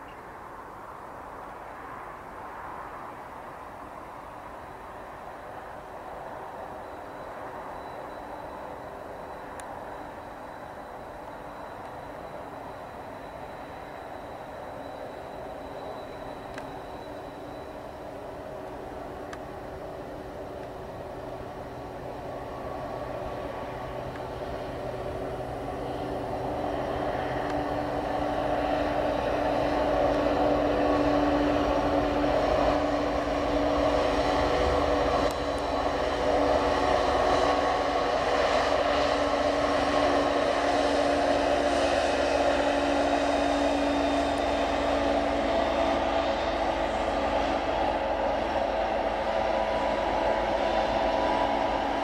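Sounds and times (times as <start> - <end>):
diesel locomotive engine drone: 0.0 - 52.0.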